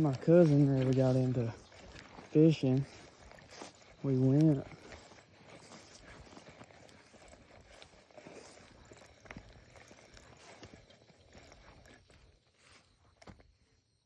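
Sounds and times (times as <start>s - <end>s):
faint rustling: 0.0s - 13.4s.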